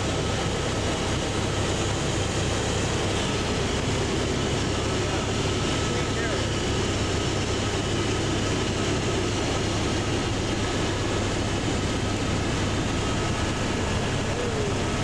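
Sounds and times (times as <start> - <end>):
helicopter cabin drone: 0.0 - 15.0
thin steady turbine whine: 0.0 - 15.0.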